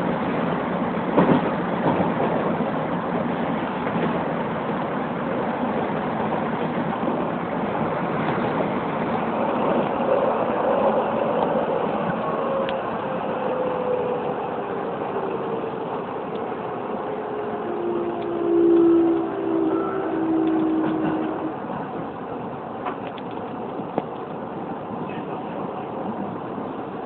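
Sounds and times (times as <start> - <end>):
train wheels on rails: 0.0 - 27.0.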